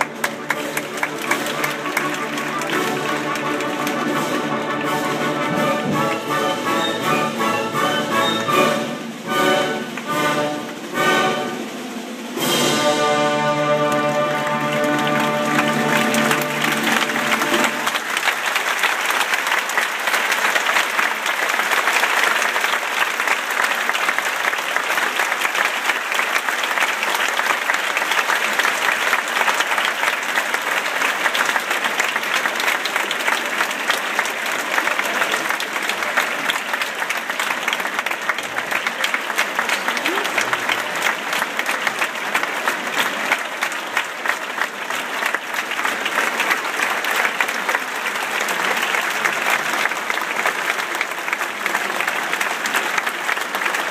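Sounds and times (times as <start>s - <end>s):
audience applauding: 0.0s - 53.9s.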